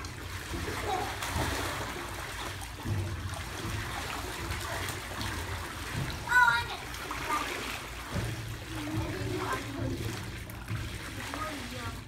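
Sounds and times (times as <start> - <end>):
pool water trickling: 0.0 - 12.0.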